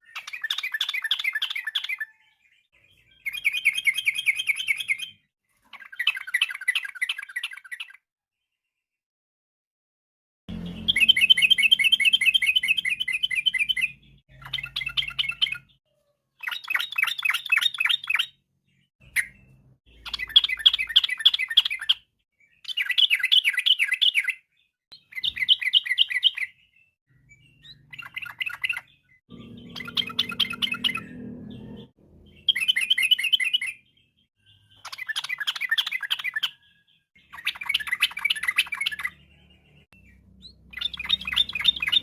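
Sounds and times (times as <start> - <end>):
bird singing trilled phrases: 0.0 - 9.0, 10.5 - 42.0.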